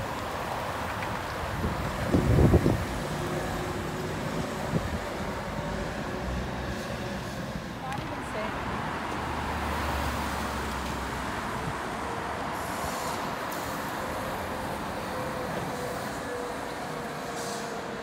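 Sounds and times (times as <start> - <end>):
low traffic rumble: 0.0 - 18.0
tyre and road noise: 0.0 - 18.0.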